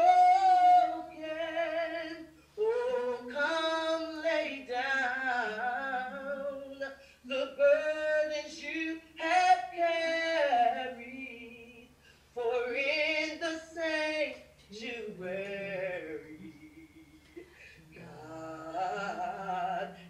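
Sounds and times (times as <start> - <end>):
woman singing unaccompanied: 0.0 - 20.0.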